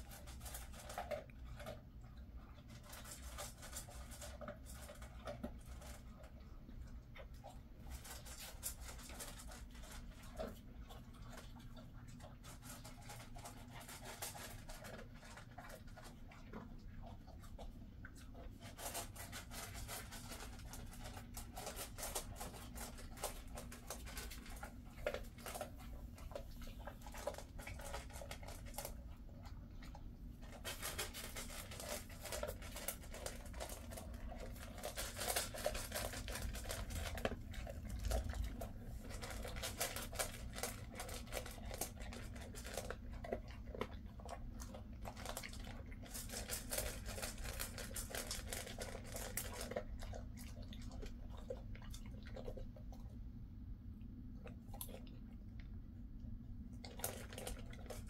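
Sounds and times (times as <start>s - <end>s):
dog crunching dry food: 0.0s - 53.4s, 54.3s - 58.0s.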